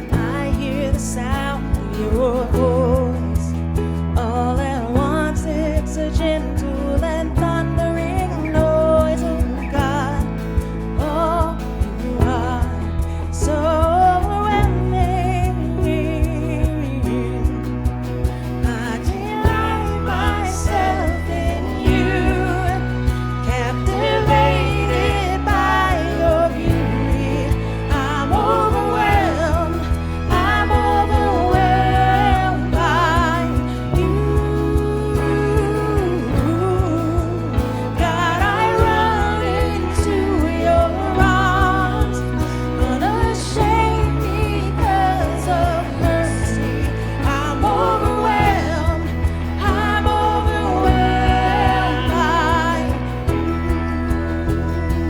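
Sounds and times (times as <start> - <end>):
person singing: 0.0 - 55.0
sustained bass notes: 0.0 - 55.0
worship band playing slow song: 0.0 - 55.0.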